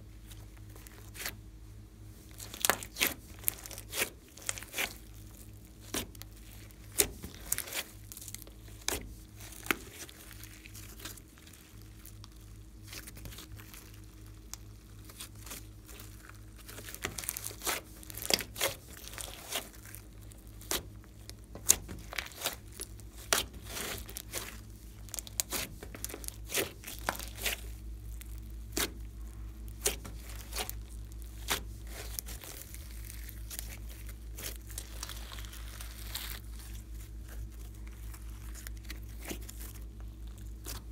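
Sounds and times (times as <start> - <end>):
slime crackling and popping: 2.2 - 40.9.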